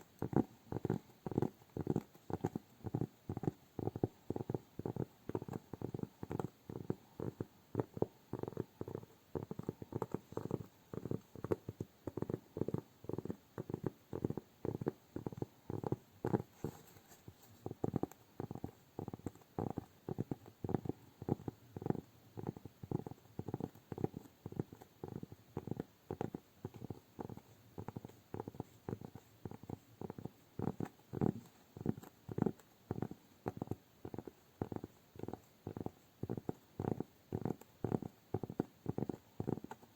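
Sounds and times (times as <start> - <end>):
fingers tapping near microphone: 0.0 - 39.9.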